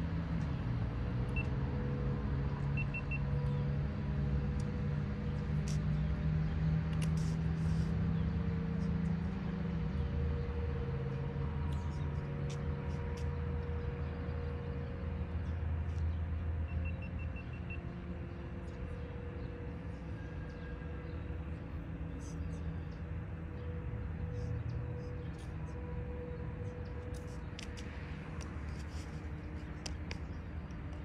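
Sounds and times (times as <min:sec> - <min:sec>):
vehicle engine rumble: 0:00.0 - 0:31.0.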